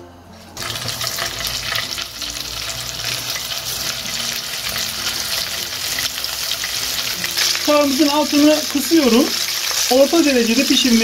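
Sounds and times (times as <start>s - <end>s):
salmon sizzling in frying pan: 0.6s - 11.0s.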